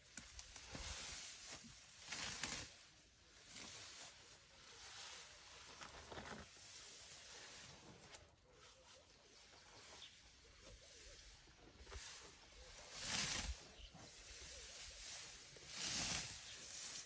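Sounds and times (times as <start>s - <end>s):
elephant feeding on grass: 0.0s - 17.0s.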